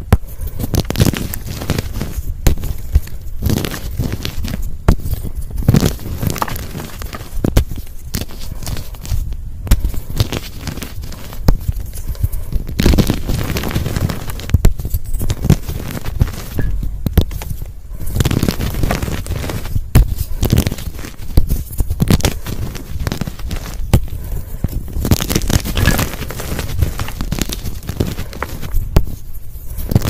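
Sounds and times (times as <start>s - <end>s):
chalk crunching in hands: 0.4s - 30.0s.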